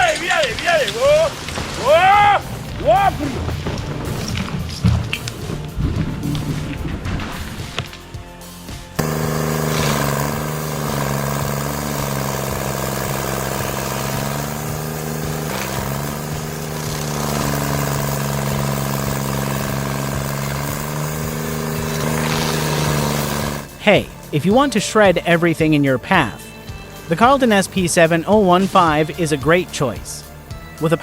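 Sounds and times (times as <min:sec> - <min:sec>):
machine engine running: 0:00.0 - 0:30.6.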